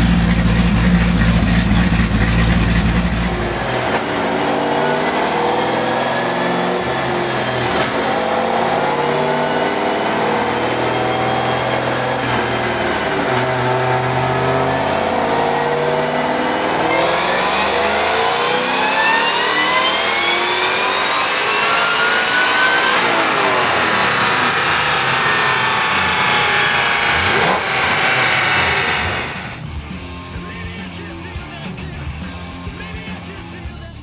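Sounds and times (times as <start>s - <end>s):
engine revving on dyno: 0.0s - 30.2s.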